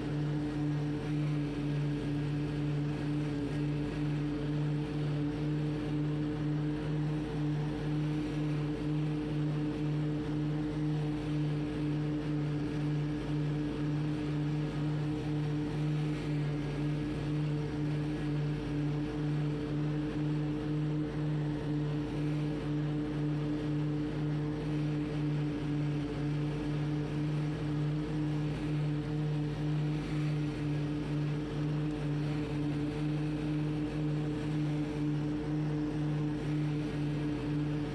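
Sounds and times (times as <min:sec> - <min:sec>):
lawn mower engine drone: 0:00.0 - 0:37.9.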